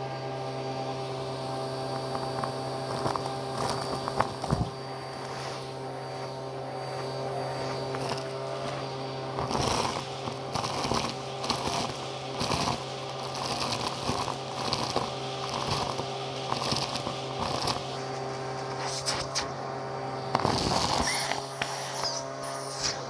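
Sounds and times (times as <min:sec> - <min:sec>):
vacuum cleaner running: 0:00.0 - 0:23.0
debris crackling up vacuum hose: 0:01.8 - 0:23.0.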